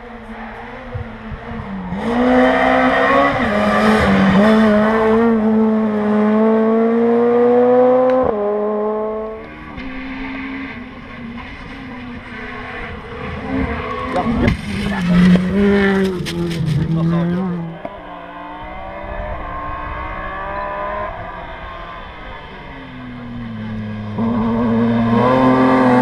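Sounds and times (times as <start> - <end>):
distant rally car engine: 0.0 - 26.0
rally car engine accelerating: 0.0 - 26.0.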